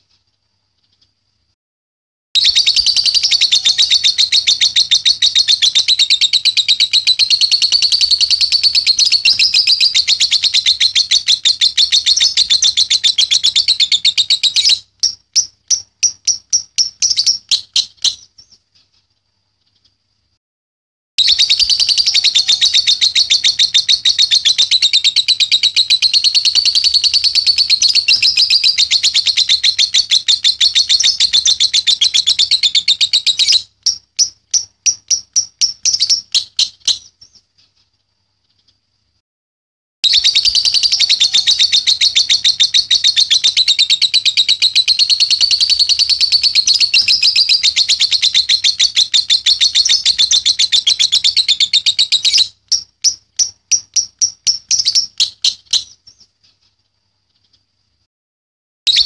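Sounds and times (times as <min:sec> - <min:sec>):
lovebird high trilling chatter: 0:02.4 - 0:18.3, 0:21.2 - 0:37.1, 0:40.0 - 0:56.2.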